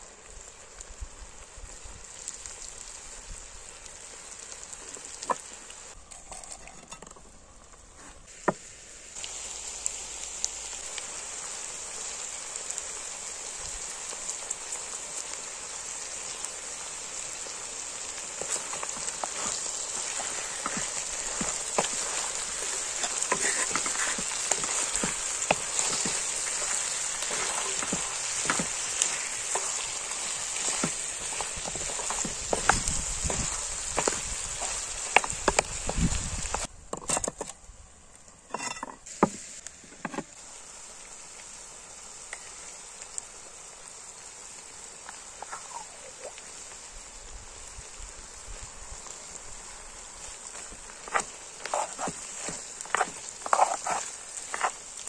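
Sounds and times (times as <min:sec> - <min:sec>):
food sizzling in a pan: 0:00.0 - 0:36.7, 0:38.5 - 0:55.0.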